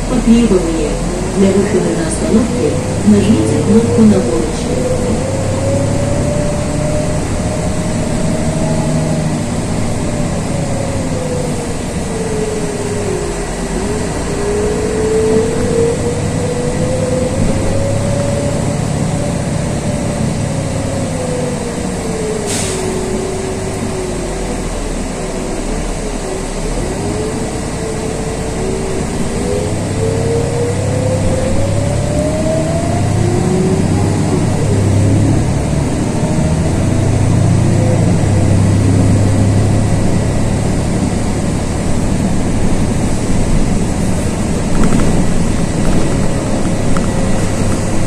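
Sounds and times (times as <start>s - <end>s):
bus engine rumble and whine: 0.0s - 48.0s.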